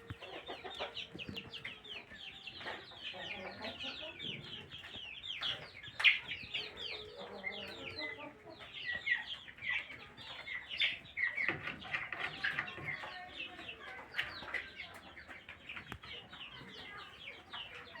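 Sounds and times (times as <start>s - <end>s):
flock of chickens calling: 0.0s - 18.0s.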